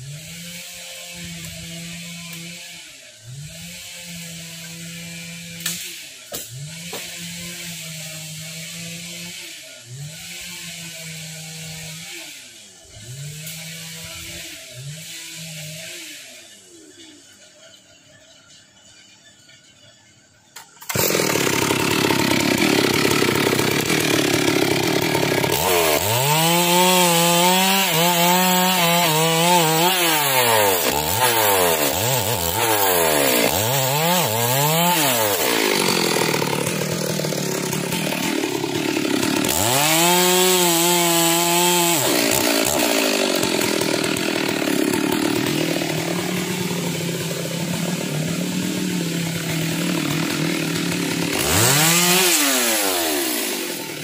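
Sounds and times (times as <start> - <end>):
chainsaw cutting log: 0.0 - 16.6, 20.8 - 54.0.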